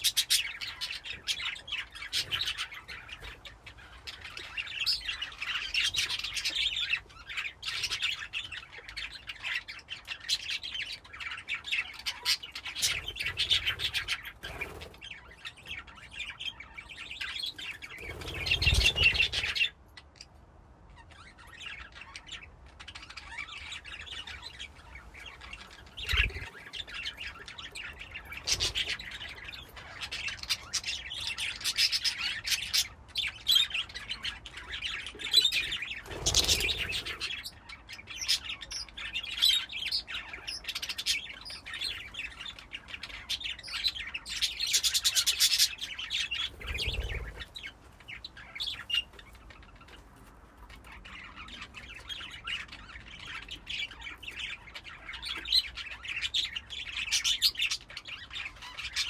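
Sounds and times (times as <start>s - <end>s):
budgies chirping and warbling: 0.0s - 59.0s.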